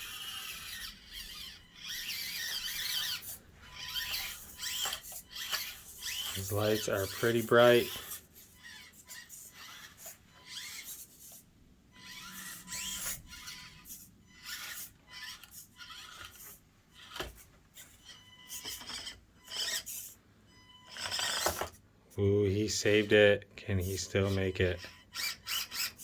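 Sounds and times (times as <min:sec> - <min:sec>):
electric motor whining: 0:00.0 - 0:20.2, 0:20.8 - 0:21.8, 0:23.8 - 0:26.0
toy truck scraping and clicking: 0:00.0 - 0:20.2, 0:20.8 - 0:23.2, 0:23.8 - 0:26.0.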